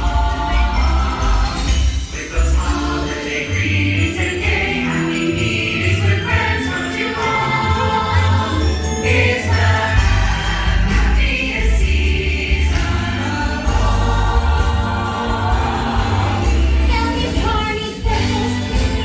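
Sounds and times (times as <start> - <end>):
choir singing christmas music: 0.0 - 19.0.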